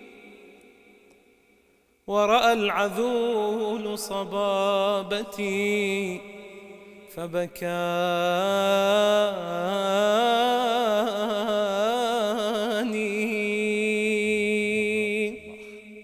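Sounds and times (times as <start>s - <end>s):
man singing ornamented notes: 0.0s - 1.1s, 2.1s - 16.0s.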